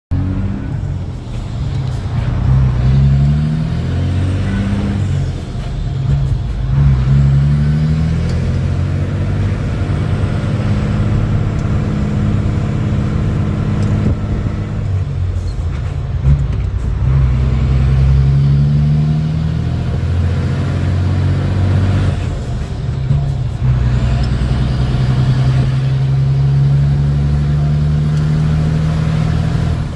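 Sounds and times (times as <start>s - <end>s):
truck diesel engine shifting gears: 0.1s - 29.9s.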